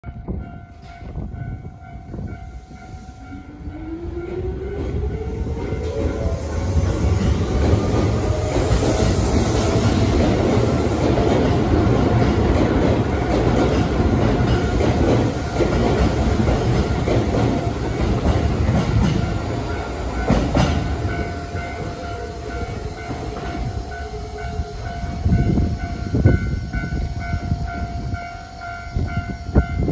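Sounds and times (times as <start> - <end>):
train wheels clattering on rails: 0.2 - 29.9.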